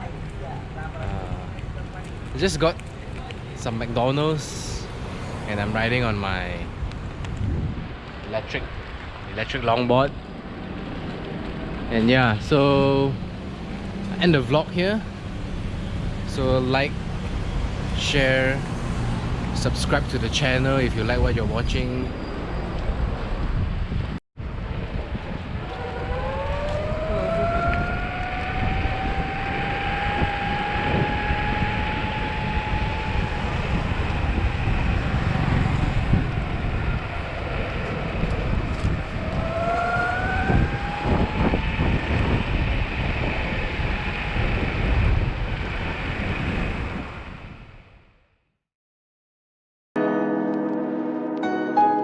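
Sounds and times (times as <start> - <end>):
wind buffeting microphone: 0.0 - 18.0, 18.6 - 48.1
wheels rumbling on road: 0.0 - 48.1.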